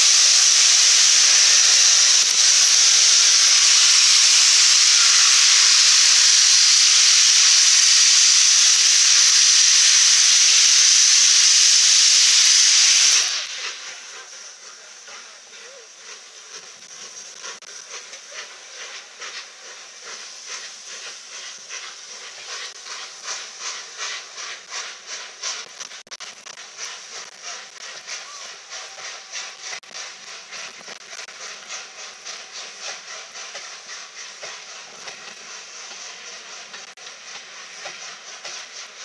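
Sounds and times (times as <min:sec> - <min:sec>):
steady hiss of steam: 0:00.0 - 0:39.0
steam locomotive exhaust chuffs: 0:00.0 - 0:39.0.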